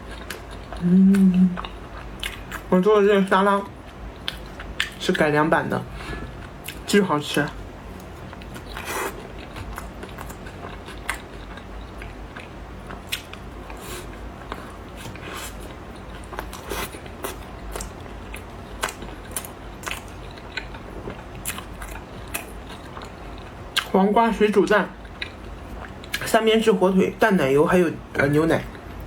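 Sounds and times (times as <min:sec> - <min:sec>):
crunchy chewing of salad: 0:00.0 - 0:02.7, 0:03.8 - 0:05.2, 0:05.8 - 0:24.0, 0:24.9 - 0:26.4.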